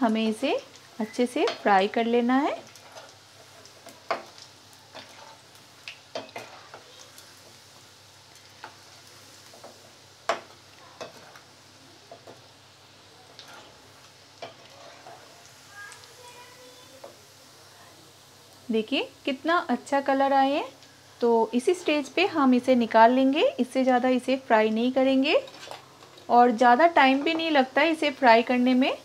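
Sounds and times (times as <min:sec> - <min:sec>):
food deep-frying in hot oil: 0:00.0 - 0:29.0.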